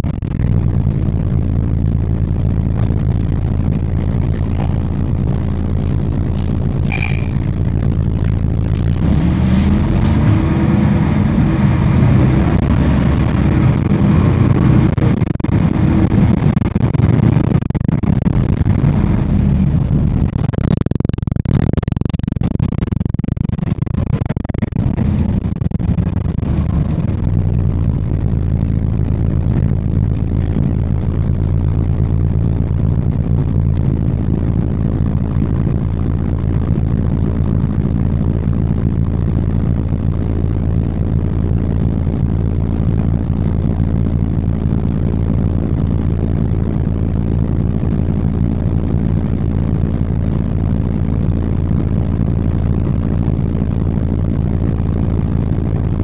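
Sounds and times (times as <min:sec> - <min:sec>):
bus engine running: 0:00.0 - 0:20.5, 0:24.0 - 0:56.0.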